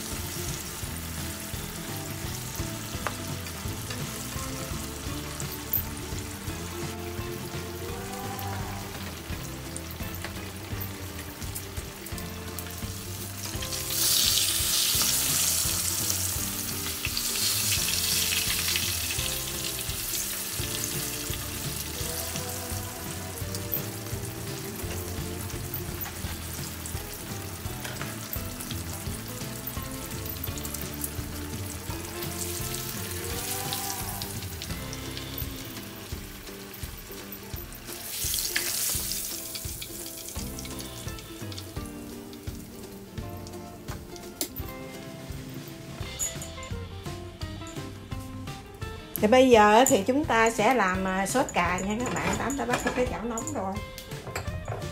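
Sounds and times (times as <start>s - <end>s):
fish sizzling in oil: 0.0s - 54.1s
background music: 0.0s - 54.9s.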